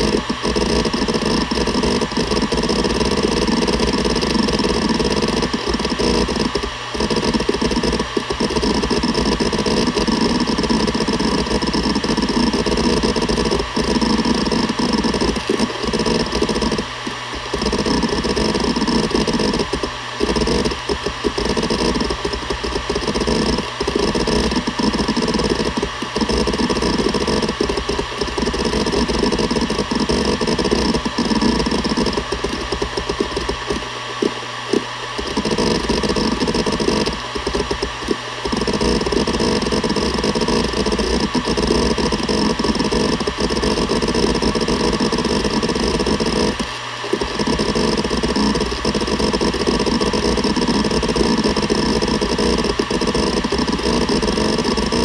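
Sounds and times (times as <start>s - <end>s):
hard drive head clatter: 0.0s - 55.0s
hard drive spinning hum: 0.0s - 55.0s.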